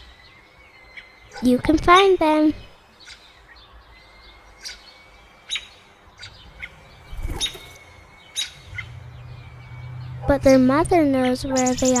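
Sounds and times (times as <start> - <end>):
songbird chirps: 0.0 - 12.0.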